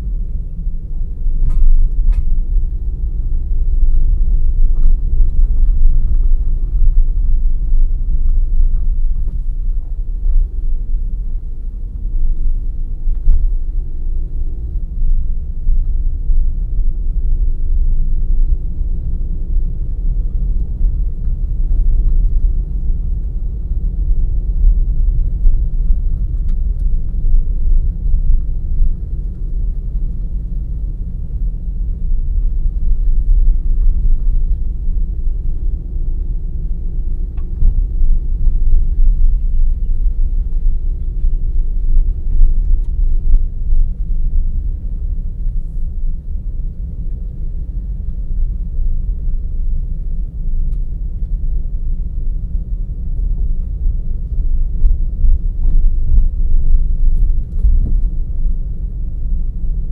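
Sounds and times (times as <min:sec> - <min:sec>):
car tyres and engine rumbling: 0:00.0 - 0:59.9
faint engine hum: 0:00.0 - 0:59.9.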